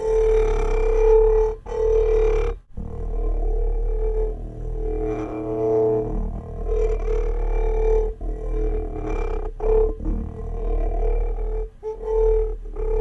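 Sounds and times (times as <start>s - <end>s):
low hum: 0.0s - 13.0s
wine glass humming ring: 0.0s - 13.0s.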